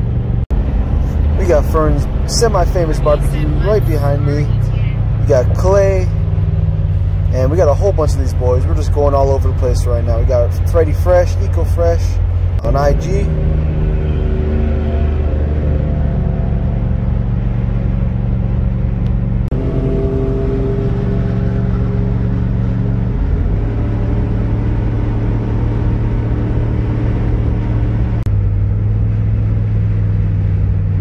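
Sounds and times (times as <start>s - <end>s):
truck engine cruising: 0.0s - 31.0s.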